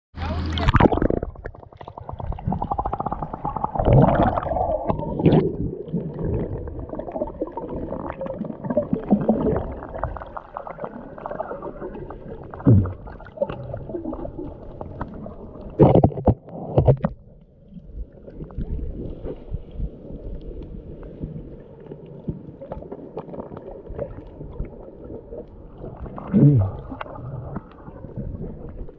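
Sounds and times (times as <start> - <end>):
muffled underwater gurgling and sloshing: 0.2 - 28.9
water swishes: 0.2 - 28.9.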